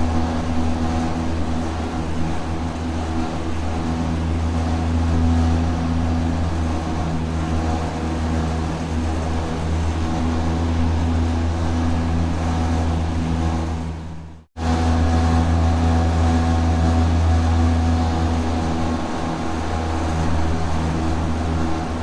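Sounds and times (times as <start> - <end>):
rotating machine whirring drone: 0.0 - 22.0.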